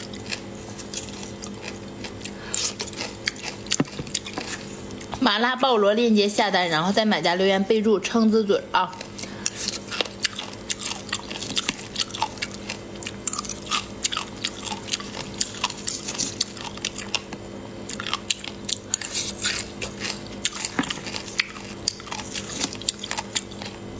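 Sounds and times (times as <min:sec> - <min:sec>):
close-up chewing and biting: 0:00.0 - 0:05.2, 0:09.0 - 0:23.8
faint steady hum: 0:00.0 - 0:23.9.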